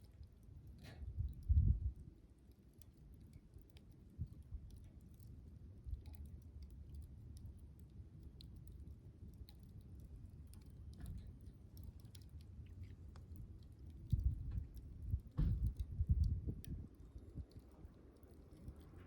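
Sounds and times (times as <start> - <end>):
campfire crackling: 0.0 - 19.0
low fire rumble: 0.0 - 19.0.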